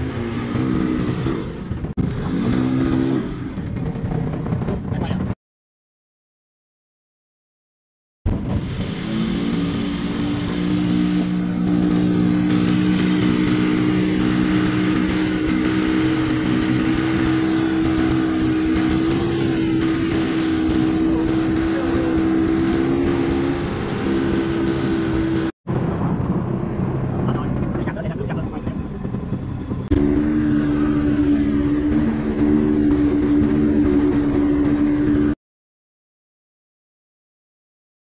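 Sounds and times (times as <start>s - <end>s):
water rushing along hull: 0.0s - 5.3s, 8.3s - 35.4s
speedboat engine running: 0.0s - 5.4s, 8.3s - 35.4s.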